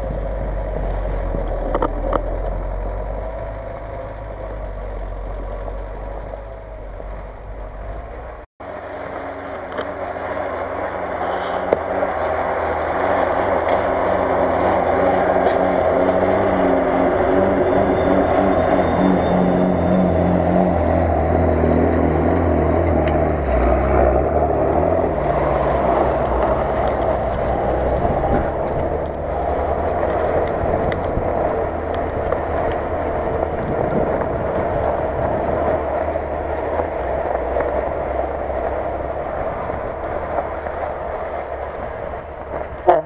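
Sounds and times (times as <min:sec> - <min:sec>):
off-road vehicle engine rumbling: 0:00.0 - 0:43.0.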